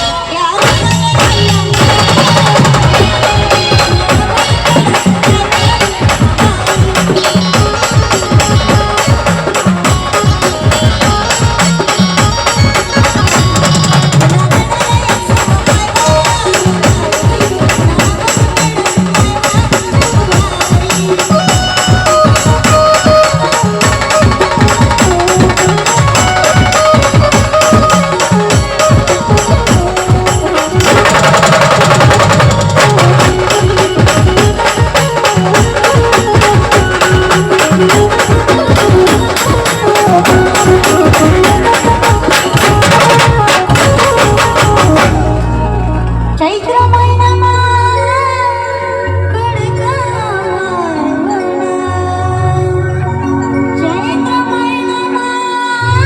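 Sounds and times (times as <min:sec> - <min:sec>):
fast drum and percussion beats: 0:00.0 - 0:48.5.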